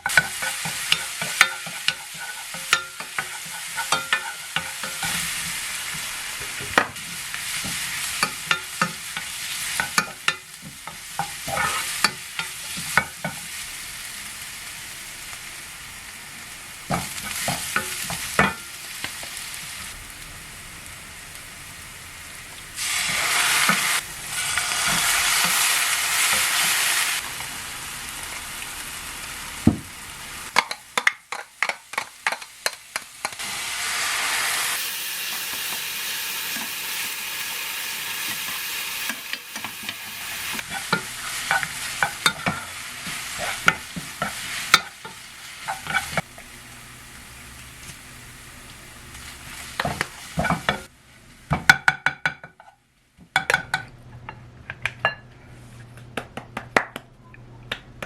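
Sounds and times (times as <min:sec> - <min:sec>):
food sizzling in a pan: 0:00.0 - 0:51.8.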